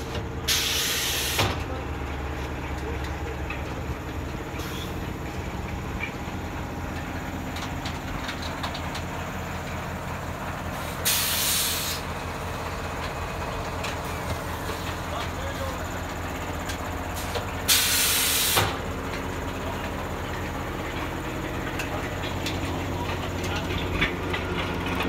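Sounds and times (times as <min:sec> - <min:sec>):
packing machines humming: 0:00.0 - 0:25.0.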